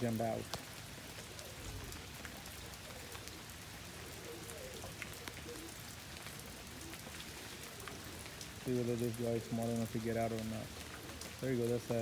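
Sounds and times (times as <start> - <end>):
heavy rain: 0.0 - 12.0
raindrops ticking close by: 0.0 - 12.0.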